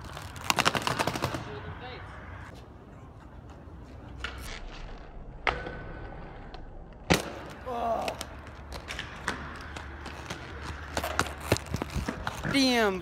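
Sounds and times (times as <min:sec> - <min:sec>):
skates landing on concrete and rail: 0:00.0 - 0:01.5, 0:04.0 - 0:13.0
skate wheels rolling: 0:00.0 - 0:13.0.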